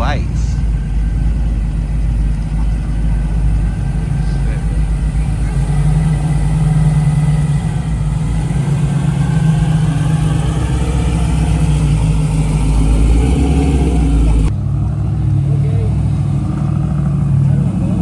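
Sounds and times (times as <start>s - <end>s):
car engine rumbling at low speed: 0.0s - 18.0s.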